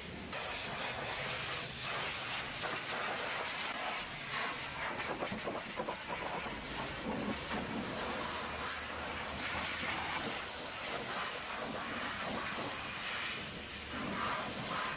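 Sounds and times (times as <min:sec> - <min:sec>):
pressure washer spraying: 0:00.0 - 0:14.9.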